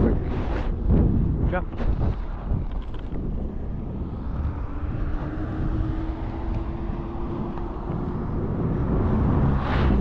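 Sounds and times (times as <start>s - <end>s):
wind rumble: 0.0s - 10.0s.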